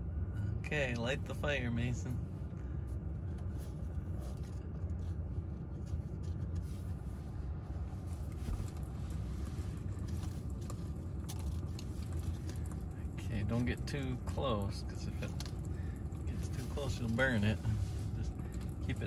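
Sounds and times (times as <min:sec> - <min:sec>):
car climate fan blowing: 0:00.0 - 0:19.0.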